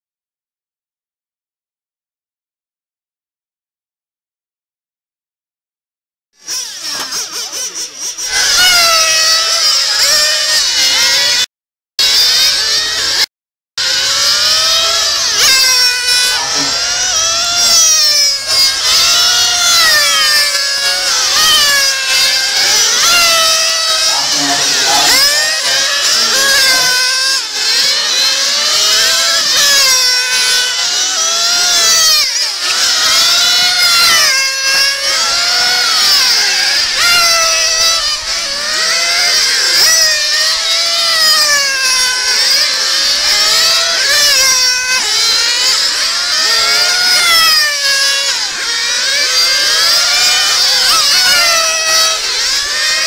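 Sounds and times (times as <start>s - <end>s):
model car motors whining: 6.4s - 53.0s.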